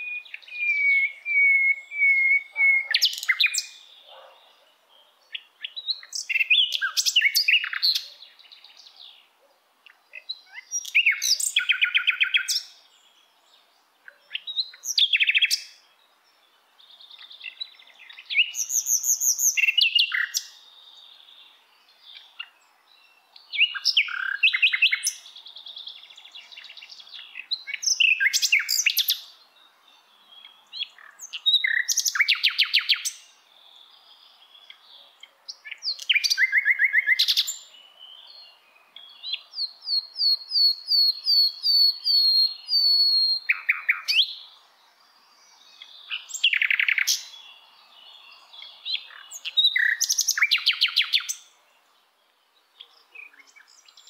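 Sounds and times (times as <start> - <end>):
birdsong with fast trills: 0.0 - 54.0.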